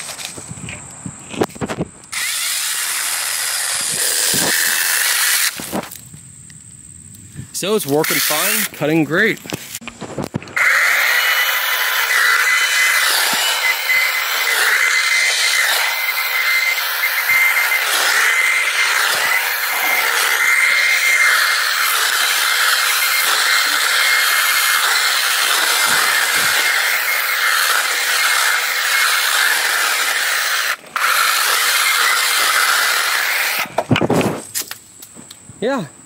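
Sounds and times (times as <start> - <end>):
chain cutting branches: 2.1 - 6.0, 7.8 - 33.8
chainsaw whining: 2.1 - 6.0, 7.8 - 33.8.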